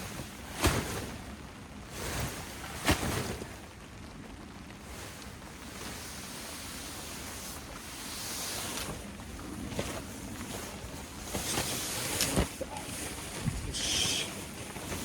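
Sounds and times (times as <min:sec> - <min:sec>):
rain hissing: 0:00.0 - 0:15.0
tent fabric rustling: 0:00.0 - 0:15.0
wind: 0:00.0 - 0:15.0.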